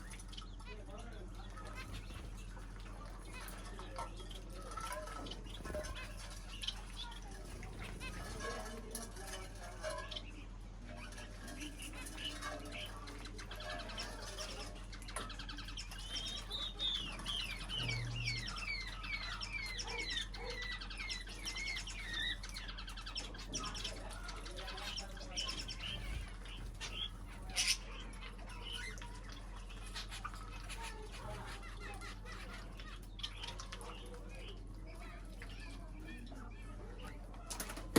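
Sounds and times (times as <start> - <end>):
birds chirping and calling: 0.0 - 37.9
steady low hum: 1.2 - 19.8, 20.6 - 33.4.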